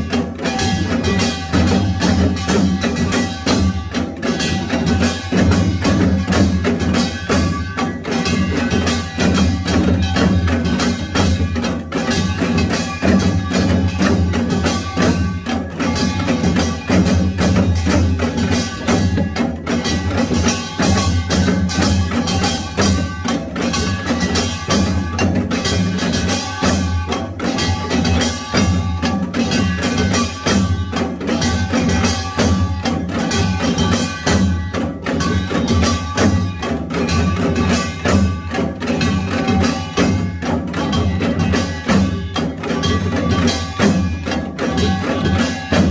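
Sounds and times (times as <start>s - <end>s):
gongs and drums percussion ensemble: 0.0s - 45.9s.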